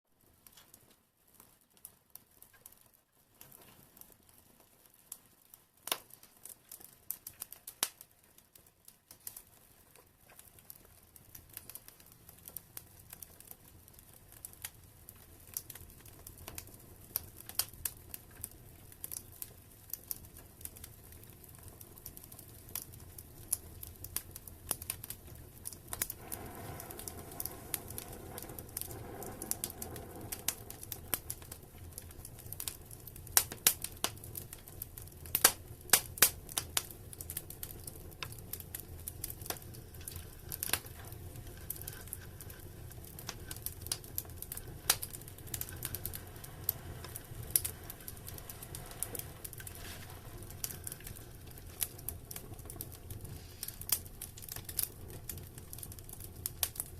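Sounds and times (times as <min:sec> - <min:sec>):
wood fire crackling and popping: 0:00.2 - 0:56.9
low rumble of flames: 0:01.2 - 0:56.9.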